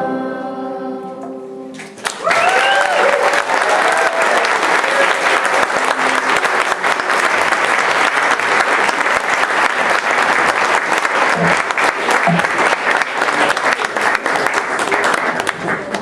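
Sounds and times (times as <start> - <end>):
audience applauding: 1.8 - 16.0.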